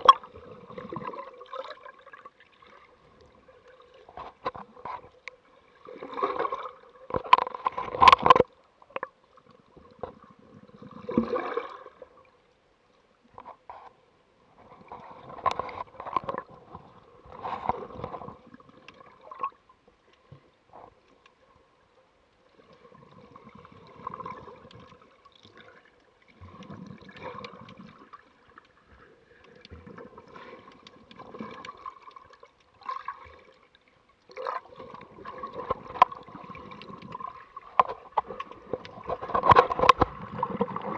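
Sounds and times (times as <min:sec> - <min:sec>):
water sloshing against camera: 0:00.0 - 0:12.2, 0:13.3 - 0:21.6, 0:22.5 - 0:40.9.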